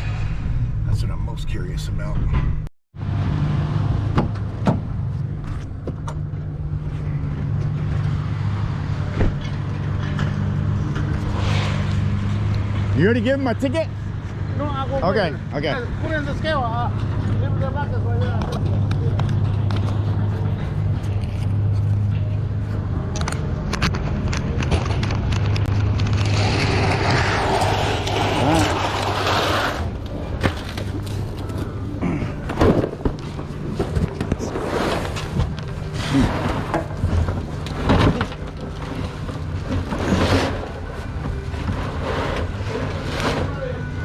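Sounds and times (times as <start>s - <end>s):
low engine hum: 0.0s - 44.0s.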